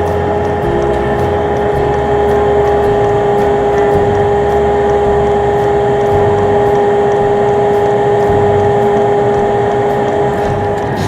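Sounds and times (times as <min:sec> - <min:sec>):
machine hum with whine: 0:00.0 - 0:11.0.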